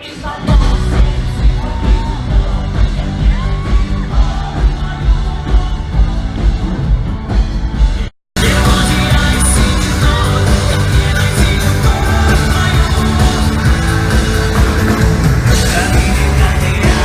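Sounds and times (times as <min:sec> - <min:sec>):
pop-rock band music: 0:00.0 - 0:17.0.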